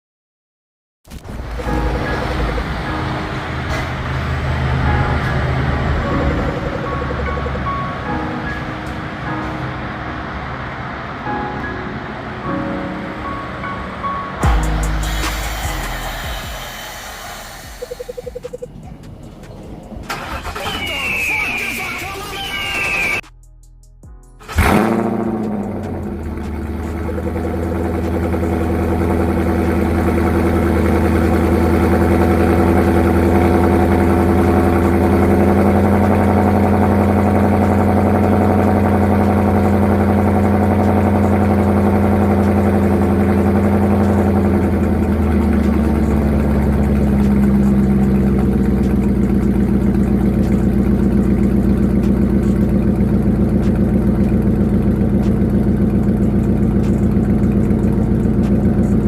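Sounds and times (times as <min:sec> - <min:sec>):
car engine idling: 0:01.1 - 0:23.3, 0:24.4 - 0:59.0.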